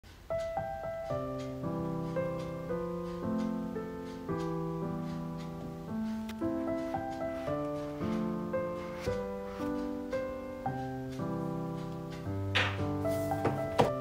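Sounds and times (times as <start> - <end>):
piano-like keyboard notes: 0.1 - 14.0.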